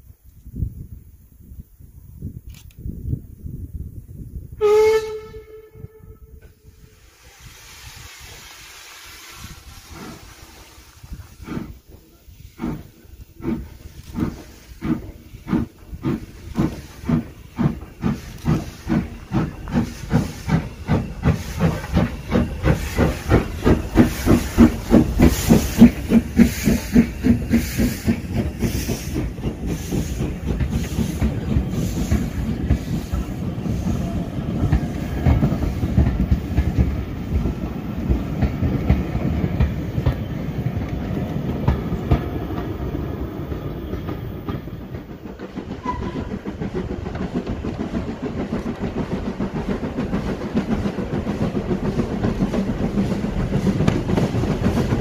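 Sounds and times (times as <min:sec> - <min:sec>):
steam locomotive chuffing: 0:06.5 - 0:55.0
train carriages clickety-clack: 0:07.9 - 0:55.0.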